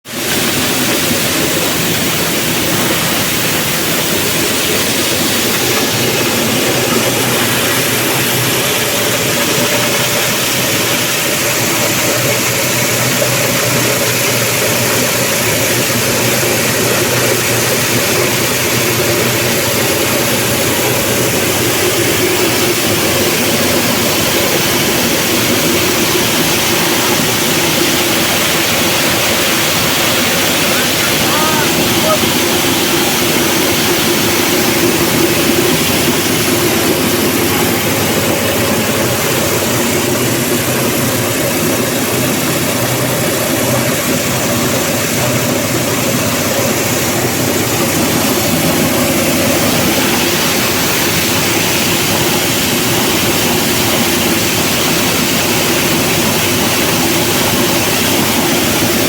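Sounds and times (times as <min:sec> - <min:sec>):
chopping and grinding machine running: 0:00.0 - 0:59.0.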